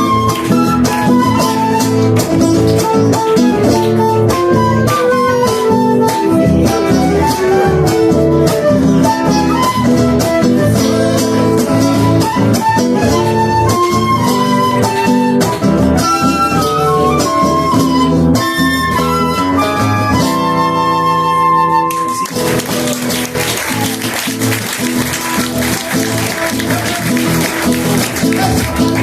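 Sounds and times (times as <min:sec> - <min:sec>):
acoustic guitars strumming: 0:00.0 - 0:29.0
flute melody: 0:00.0 - 0:29.0.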